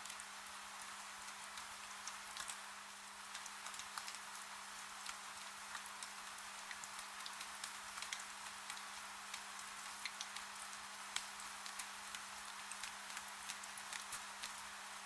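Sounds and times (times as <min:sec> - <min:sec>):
rain hiss: 0:00.0 - 0:15.0
rain on a window pane: 0:00.0 - 0:15.0.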